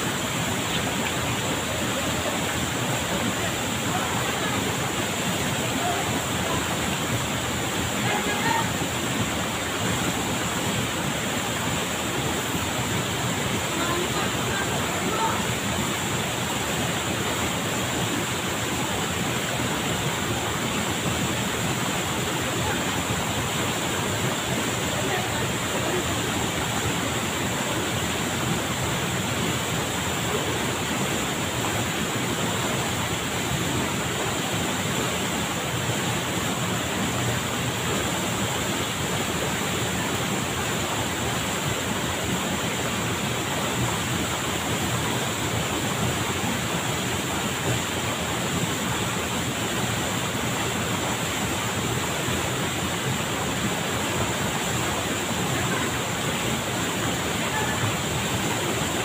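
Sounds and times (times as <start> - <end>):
waterfall pouring into pool: 0.0 - 59.0.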